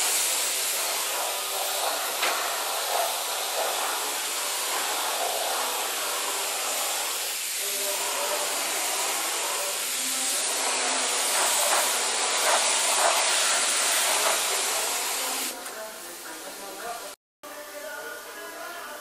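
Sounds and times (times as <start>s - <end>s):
paint spray gun hissing: 0.0s - 15.6s.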